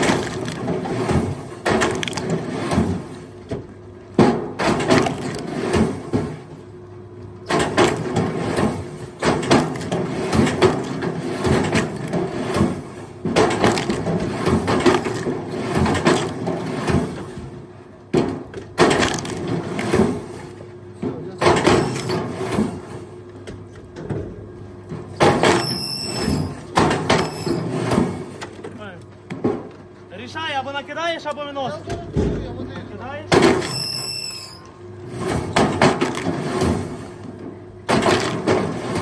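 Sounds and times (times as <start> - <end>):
faint motor hum: 0.0 - 39.0.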